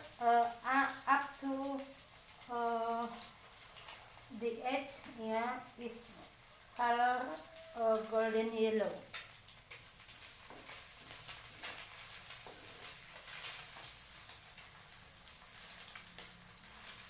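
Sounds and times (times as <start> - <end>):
omelette sizzling in a frying pan: 0.0 - 17.0
small crackles and pops: 0.0 - 17.0.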